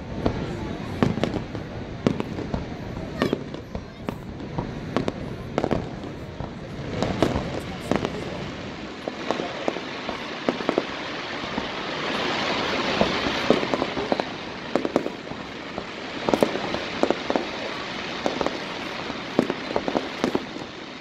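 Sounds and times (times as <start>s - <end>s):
continuous hiss: 0.0s - 21.0s
fireworks bursting: 0.0s - 21.0s.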